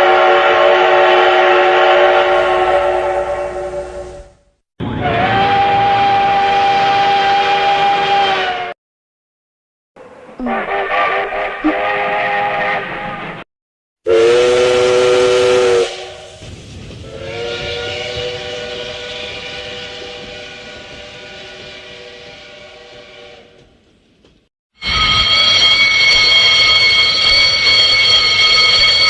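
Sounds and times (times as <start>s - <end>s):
steam locomotive whistle: 0.0s - 8.8s, 10.5s - 13.2s, 14.1s - 23.8s, 24.8s - 29.0s.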